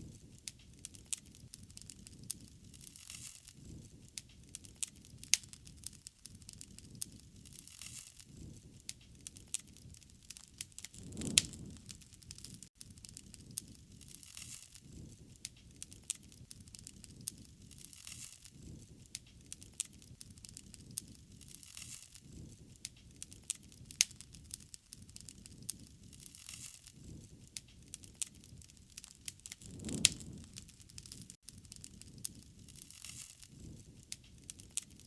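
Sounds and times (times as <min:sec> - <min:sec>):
low rushing of fire: 0:00.0 - 0:35.0
wood fire crackling and popping: 0:00.0 - 0:35.0.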